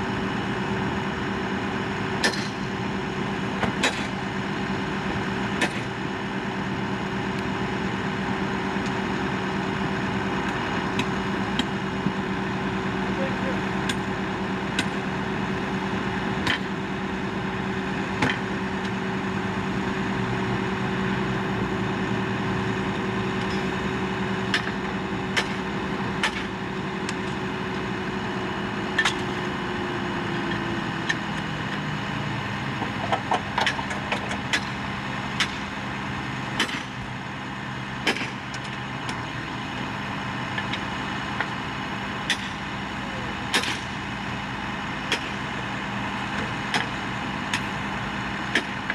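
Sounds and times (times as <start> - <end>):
vehicle engine idling: 0.0 - 48.9.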